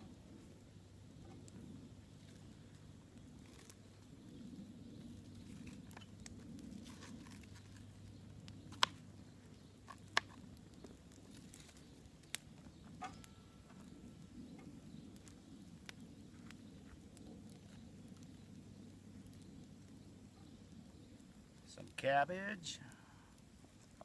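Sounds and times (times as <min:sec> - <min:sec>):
campfire rumbling: 0:00.0 - 0:24.0
fire crackling pops: 0:00.0 - 0:24.0.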